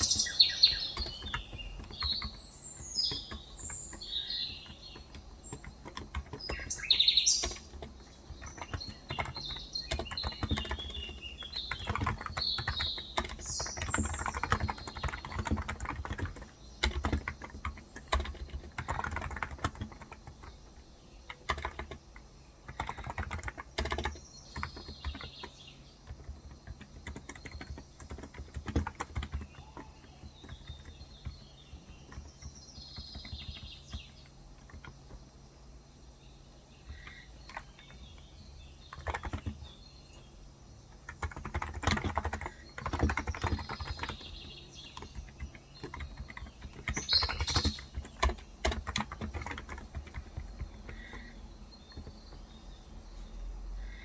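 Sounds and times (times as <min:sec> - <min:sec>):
typing on keyboard: 0:00.0 - 0:35.5, 0:36.8 - 0:53.3
small birds chirping: 0:00.0 - 0:54.0.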